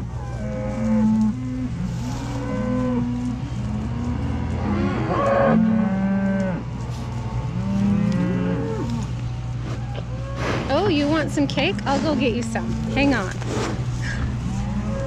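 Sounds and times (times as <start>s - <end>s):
cows mooing: 0.0s - 15.0s.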